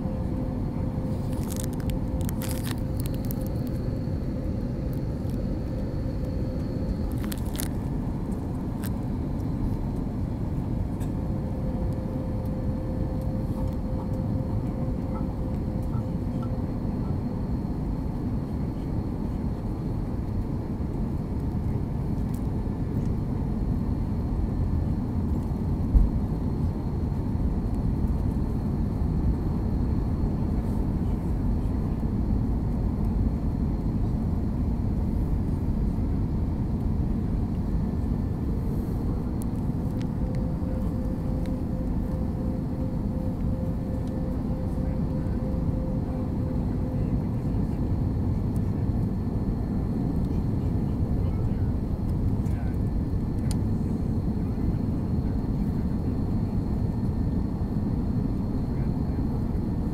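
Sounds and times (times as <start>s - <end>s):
faint steady hum: 0.0s - 59.9s
jet engine rumble and rushing air: 0.0s - 59.9s.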